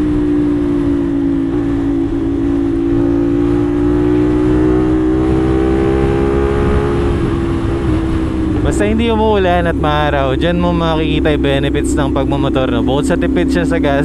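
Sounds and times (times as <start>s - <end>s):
wind noise on microphone: 0.0s - 12.3s
motorcycle engine at speed: 0.0s - 14.0s.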